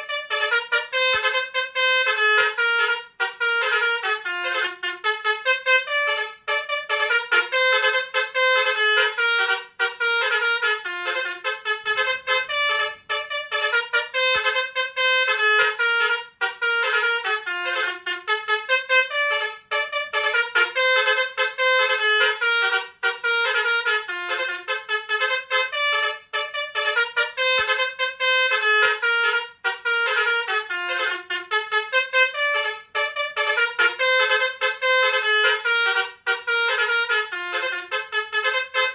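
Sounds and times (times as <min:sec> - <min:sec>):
multi-tone bus horn tune: 0:00.0 - 0:38.9.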